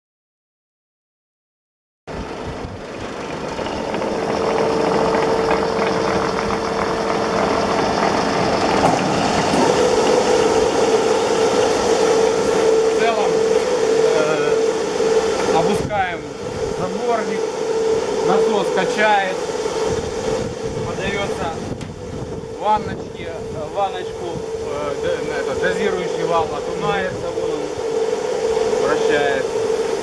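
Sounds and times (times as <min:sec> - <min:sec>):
polishing machine motor hum: 0:02.2 - 0:30.0.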